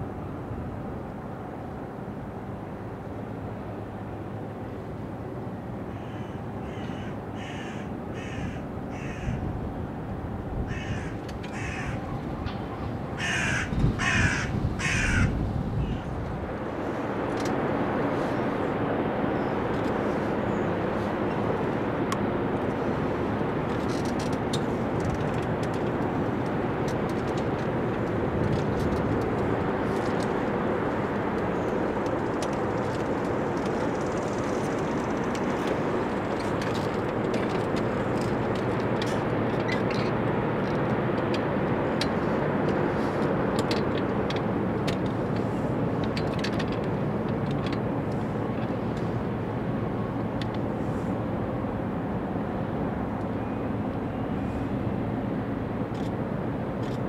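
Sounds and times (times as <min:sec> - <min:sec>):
ship engines rumbling: 0:00.2 - 0:57.0.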